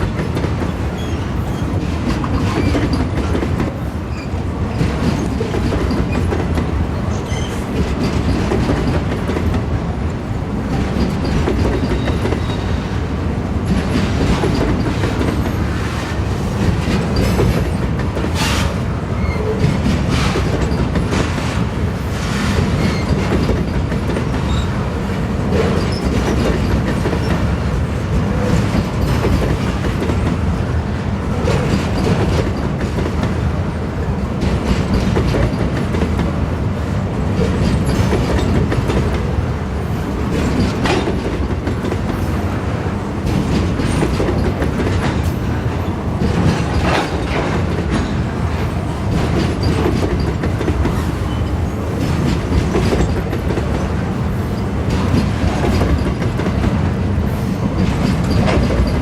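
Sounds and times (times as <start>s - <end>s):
train wheels clacking over rail joints: 0.0s - 9.8s, 10.6s - 12.9s, 13.5s - 59.0s.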